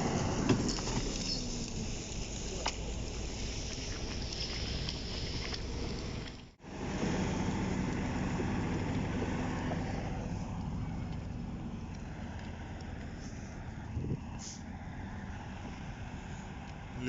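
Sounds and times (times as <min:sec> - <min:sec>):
heavy tractor engine running: 0:00.0 - 0:16.9.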